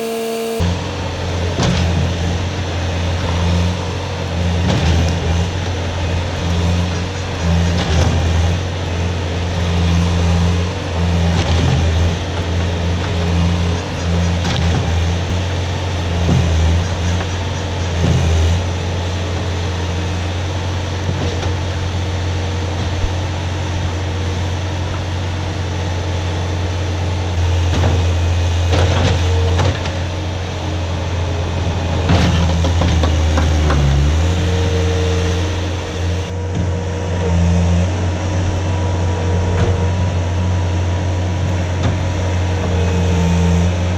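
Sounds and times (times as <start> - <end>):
skid steer engine running: 0.0 - 43.9.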